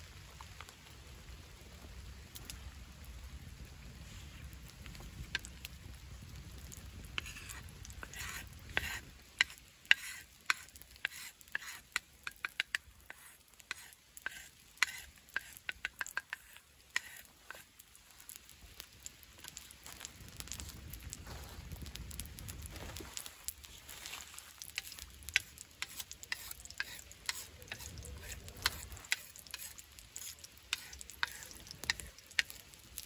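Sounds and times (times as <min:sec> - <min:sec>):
low rumble of wood fire: 0:00.0 - 0:33.0
oil sizzling and popping: 0:00.0 - 0:33.0.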